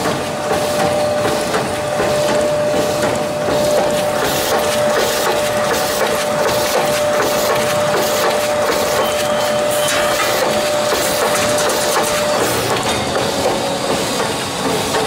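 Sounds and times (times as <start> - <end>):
machine clattering and whining: 0.0 - 15.0.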